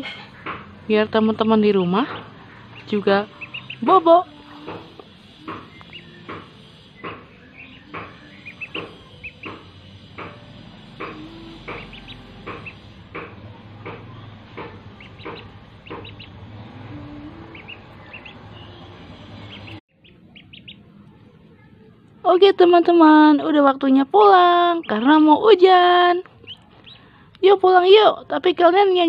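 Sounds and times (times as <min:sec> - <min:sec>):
ducklings peeping: 0:00.0 - 0:20.9, 0:24.2 - 0:27.3.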